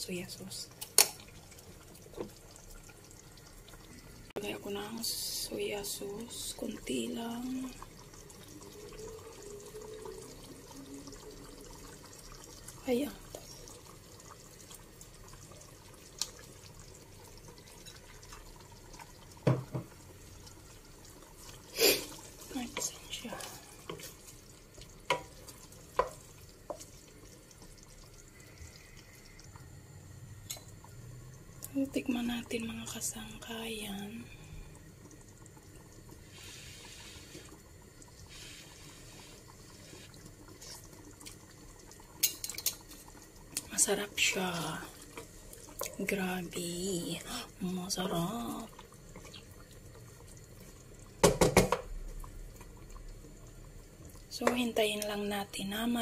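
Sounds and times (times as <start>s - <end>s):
curry bubbling in pan: 0.1s - 56.0s.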